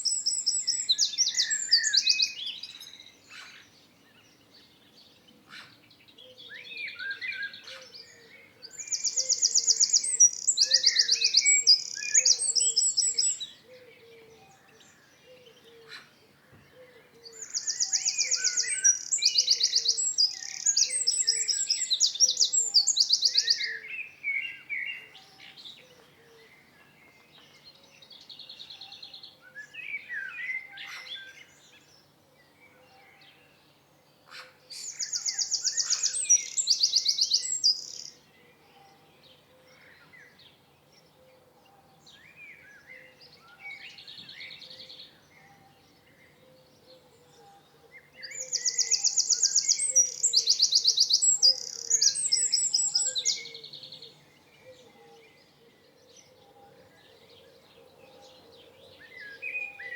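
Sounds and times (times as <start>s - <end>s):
songbird trilling song: 0.0s - 59.9s.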